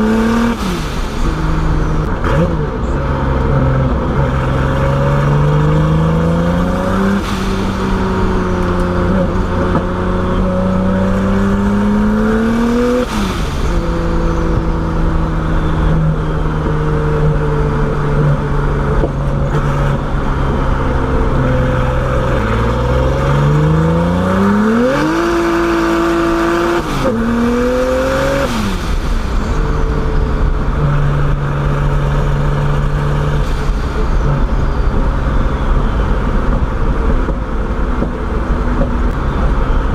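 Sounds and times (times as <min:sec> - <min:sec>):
car engine revving: 0:00.0 - 0:39.9
road noise: 0:00.0 - 0:39.9.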